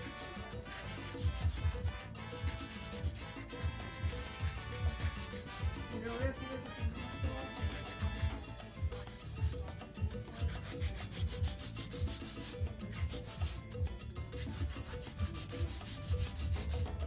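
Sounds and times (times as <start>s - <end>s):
nail file rasping: 0.0s - 5.6s, 9.0s - 17.0s.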